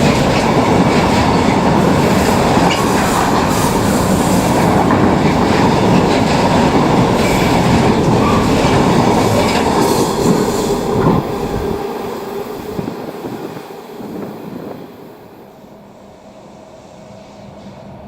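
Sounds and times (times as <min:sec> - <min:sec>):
train wheels clattering on rails: 0:00.0 - 0:14.9.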